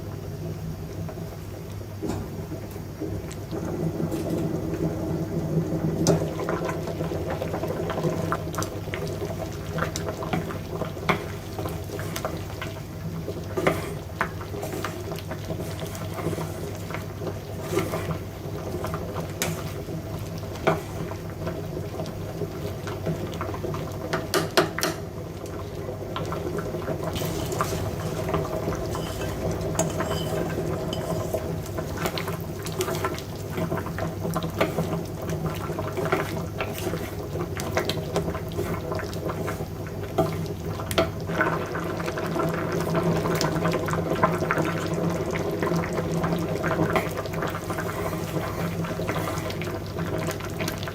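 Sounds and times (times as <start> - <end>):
liquid bubbling in pot: 0.0 - 50.9.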